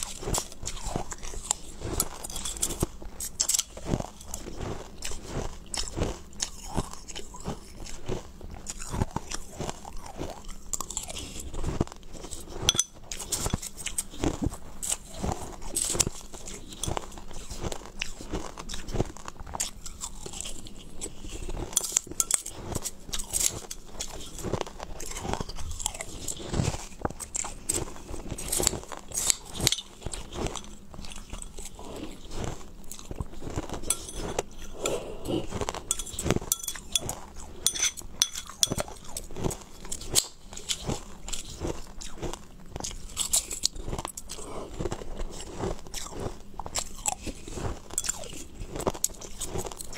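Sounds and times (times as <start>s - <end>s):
person chewing crushed ice: 0.0s - 49.9s.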